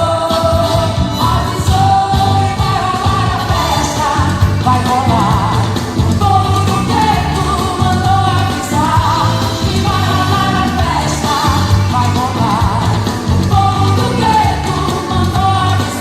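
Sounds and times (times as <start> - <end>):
person singing: 0.0 - 16.0
repeating bass beat: 1.2 - 15.7.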